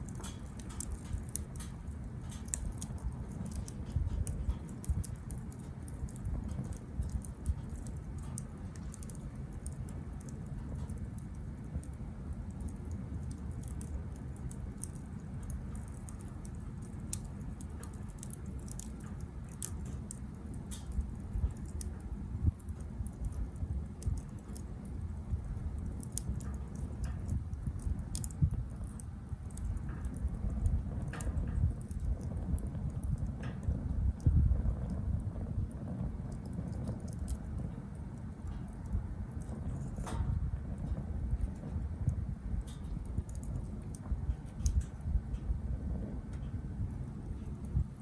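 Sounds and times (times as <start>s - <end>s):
low fire rumble: 0.0s - 48.0s
wood fire crackling: 0.0s - 48.0s.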